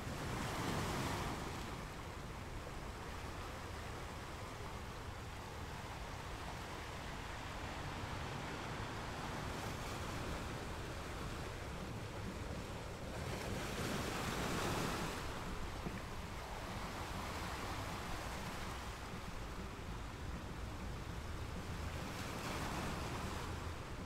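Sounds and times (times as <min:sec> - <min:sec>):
waves rushing: 0:00.0 - 0:24.0.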